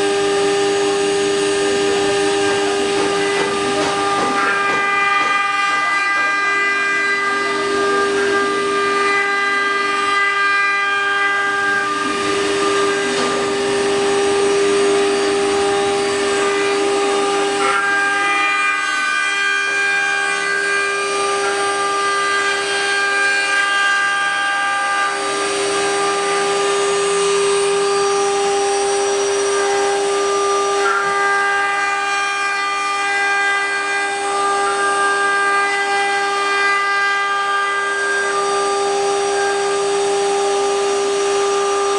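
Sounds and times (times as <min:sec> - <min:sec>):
wood router spindle whine: 0:00.0 - 0:41.9.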